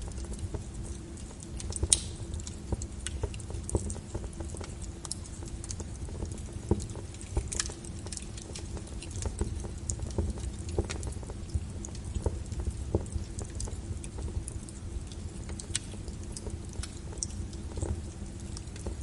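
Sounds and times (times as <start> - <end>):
log fire crackling and popping: 0.0 - 19.0
low rumble of flames: 0.0 - 19.0.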